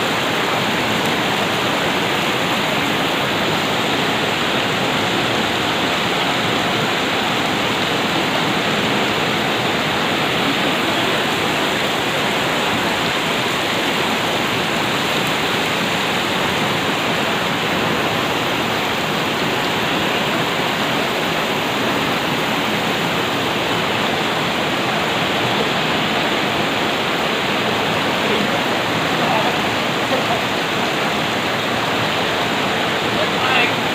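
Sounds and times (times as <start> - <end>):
fast-flowing river water rushing: 0.0 - 33.9.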